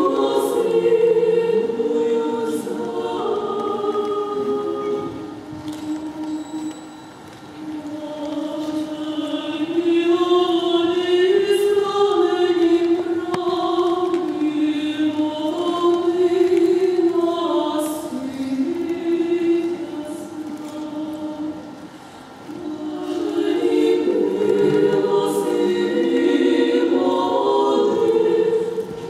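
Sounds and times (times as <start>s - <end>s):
female vocal quartet singing: 0.0s - 29.0s.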